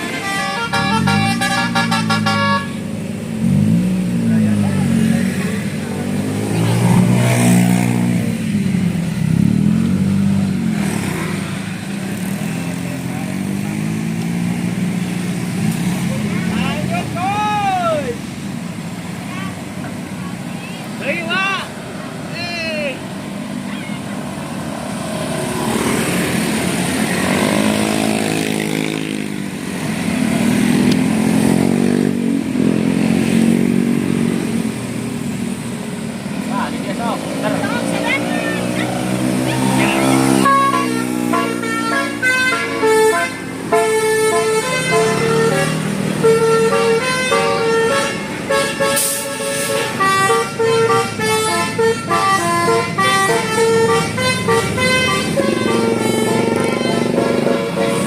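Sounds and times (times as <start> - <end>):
vehicle engine revving: 0.0 - 17.2, 24.2 - 58.0.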